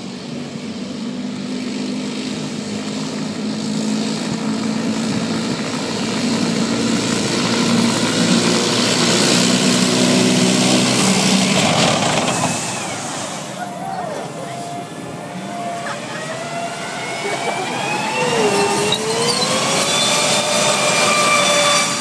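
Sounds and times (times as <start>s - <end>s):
tank turbine engine whining: 0.0s - 22.0s.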